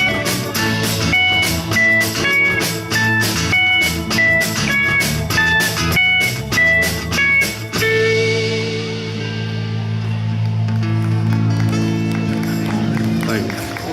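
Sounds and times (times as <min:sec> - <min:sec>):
guitar: 0:00.0 - 0:13.9.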